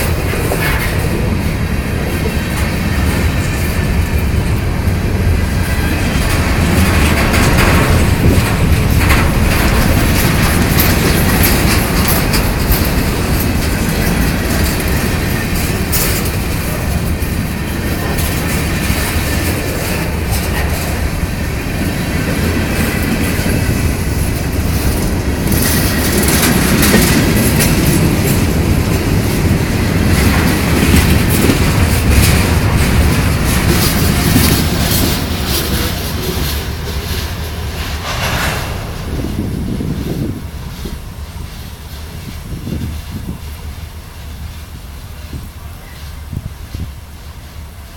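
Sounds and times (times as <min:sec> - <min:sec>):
wheels clicking over rail joints: 0:00.0 - 0:46.9
freight train rumbling past: 0:00.0 - 0:47.9.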